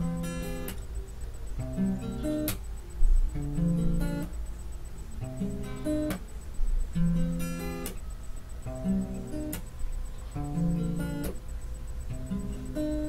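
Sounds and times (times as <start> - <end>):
acoustic guitar chords strummed: 0.0 - 1.0, 1.6 - 9.7, 10.3 - 13.0.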